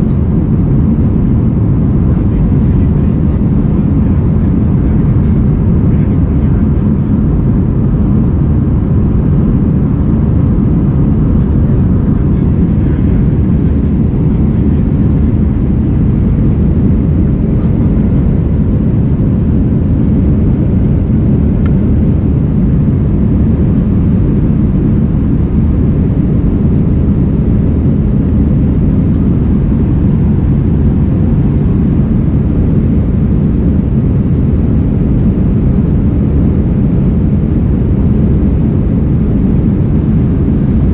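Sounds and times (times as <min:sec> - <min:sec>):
jet engine roar in cabin: 0:00.0 - 0:40.9.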